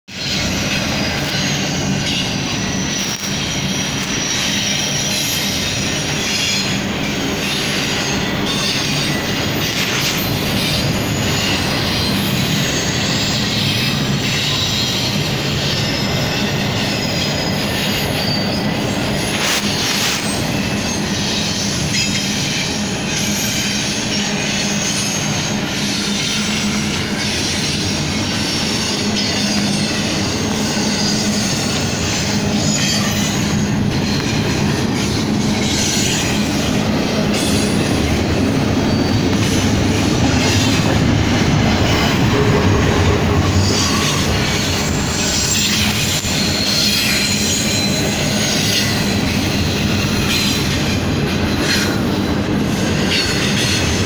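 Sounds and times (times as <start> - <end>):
train wheels rumbling on rail: 0.0 - 54.0
high-pitched wheel squeal: 0.2 - 54.0.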